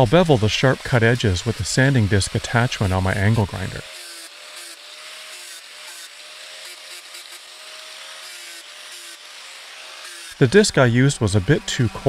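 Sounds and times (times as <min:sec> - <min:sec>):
angle grinder sanding wood: 0:00.0 - 0:12.0.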